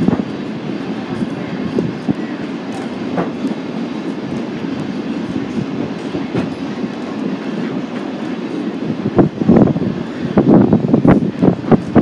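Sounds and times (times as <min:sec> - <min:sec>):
railroad cars rumbling: 0:00.0 - 0:12.0.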